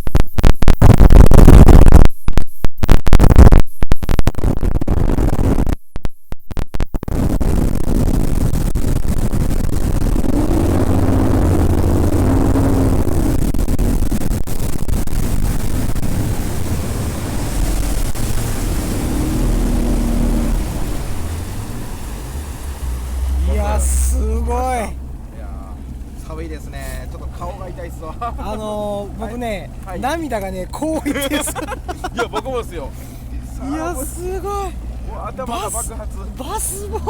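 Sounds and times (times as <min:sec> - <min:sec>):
wind noise: 0:00.0 - 0:05.8, 0:06.5 - 0:37.0
water noise: 0:06.9 - 0:37.0
outboard motor running: 0:07.2 - 0:37.0.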